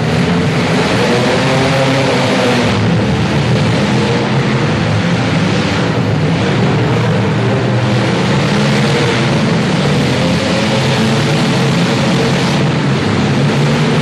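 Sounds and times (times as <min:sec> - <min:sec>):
many car engines running: 0:00.0 - 0:14.0.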